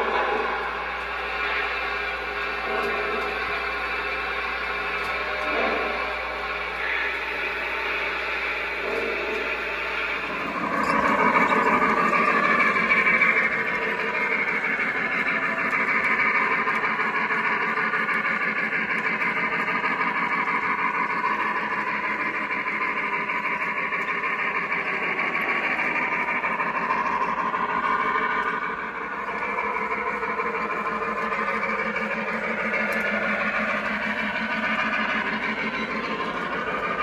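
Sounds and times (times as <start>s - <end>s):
model train wheels clattering: 0.0s - 37.0s.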